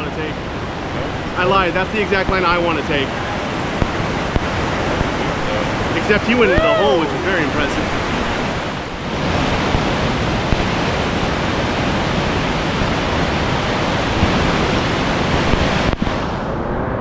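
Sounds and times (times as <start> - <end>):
whitewater rushing: 0.0 - 16.4.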